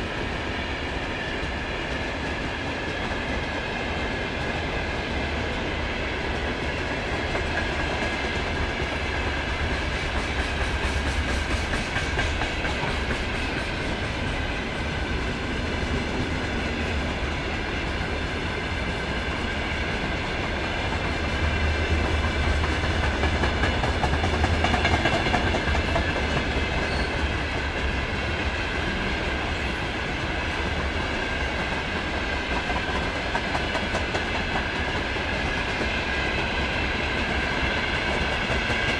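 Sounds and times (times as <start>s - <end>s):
freight train wheels rumbling on rails: 0.0s - 38.9s.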